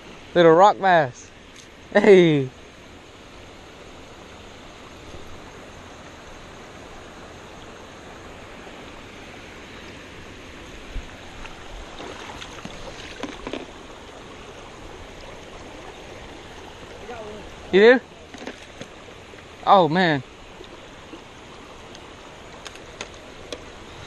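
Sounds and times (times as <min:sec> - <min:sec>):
creek water running over rocks: 0:00.0 - 0:24.0.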